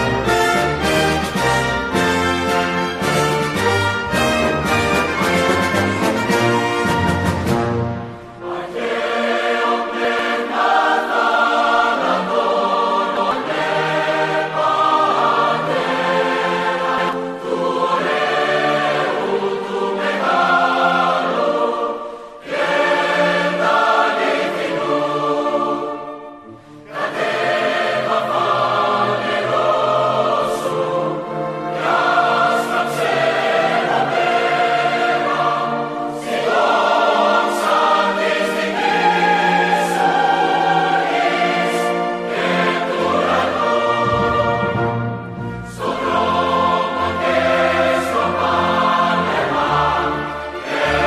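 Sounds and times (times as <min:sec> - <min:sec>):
choir singing long held notes: 0:00.0 - 0:51.0.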